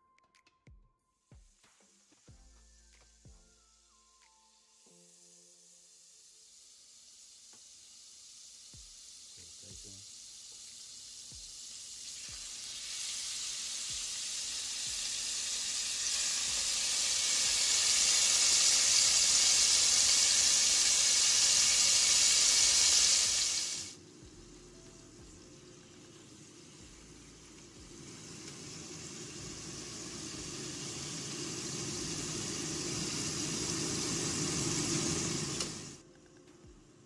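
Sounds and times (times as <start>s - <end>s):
steaks sizzling in butter: 3.7s - 36.0s.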